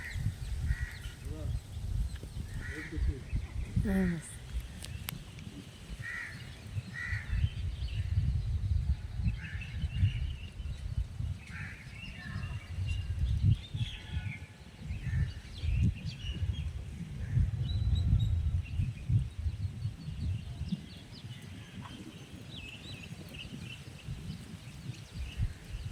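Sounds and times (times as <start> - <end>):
bird calls and chirps: 0.0 - 25.9.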